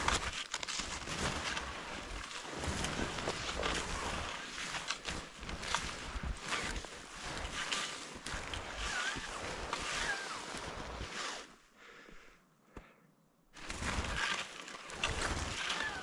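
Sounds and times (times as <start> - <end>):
skis swishing through snow: 0.0 - 11.6, 13.6 - 16.0.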